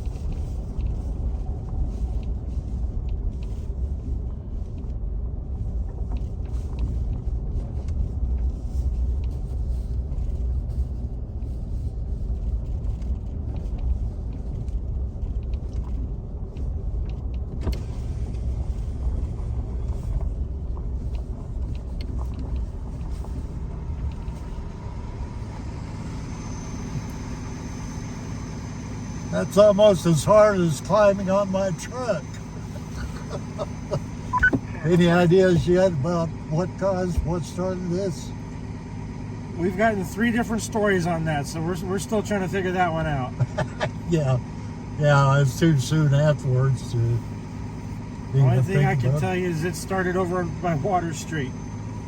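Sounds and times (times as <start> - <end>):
engine idling: 0.0 - 52.0
vehicle rumble from inside: 0.0 - 52.0.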